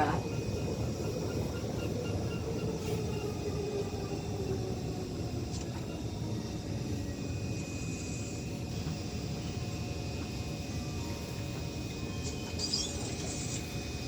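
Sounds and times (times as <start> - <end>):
train traction motor whine: 0.0 - 14.0.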